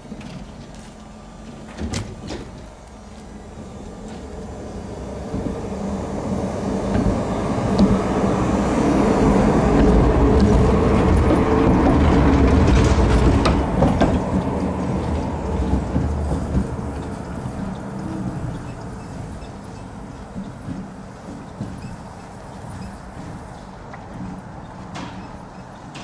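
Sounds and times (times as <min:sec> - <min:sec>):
tram motor hum: 0:00.0 - 0:26.0
tram wheels on rails: 0:00.0 - 0:26.0.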